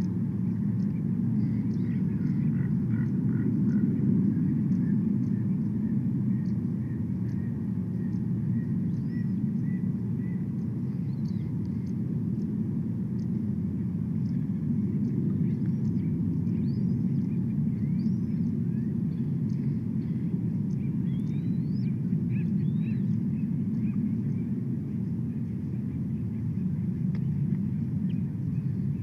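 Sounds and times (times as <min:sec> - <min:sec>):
low outdoor rumble: 0:00.0 - 0:29.0
small birds chirping: 0:00.0 - 0:29.0.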